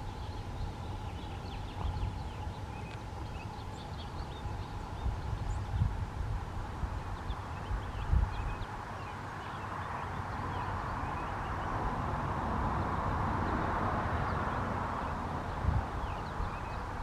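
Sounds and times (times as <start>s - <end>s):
small birds chirping: 0.0s - 12.2s, 12.8s - 17.0s.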